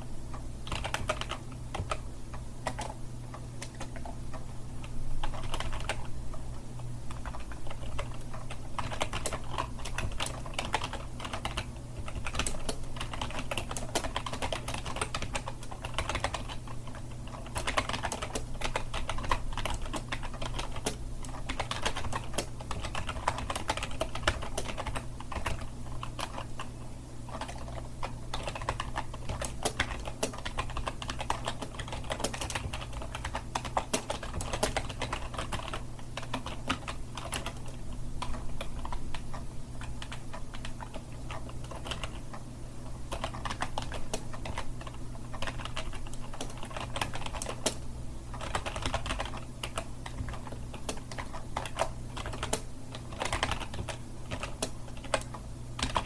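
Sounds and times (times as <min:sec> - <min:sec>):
steady low hum: 0:00.0 - 0:56.0
fast typing on keyboard: 0:00.6 - 0:06.2, 0:07.1 - 0:56.0.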